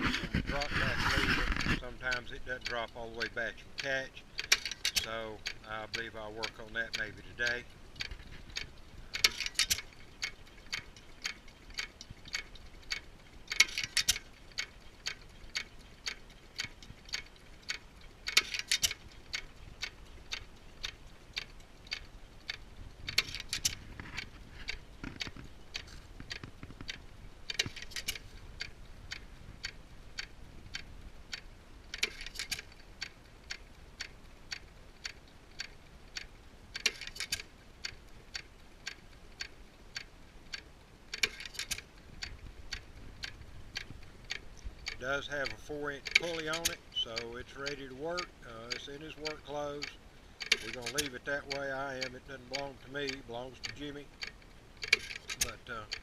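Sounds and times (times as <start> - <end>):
gas engine clicking: 1.7 - 34.6, 38.9 - 56.0.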